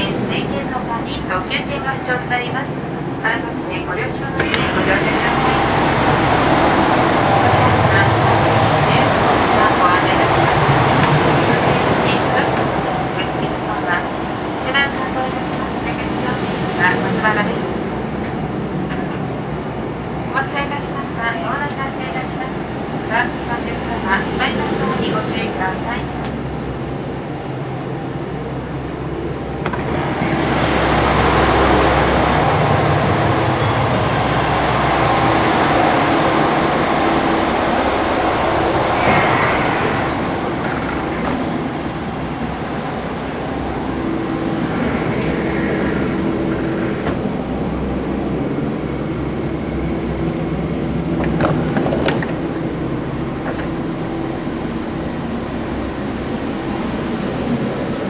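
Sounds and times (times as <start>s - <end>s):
train cabin running noise: 0.0s - 58.0s.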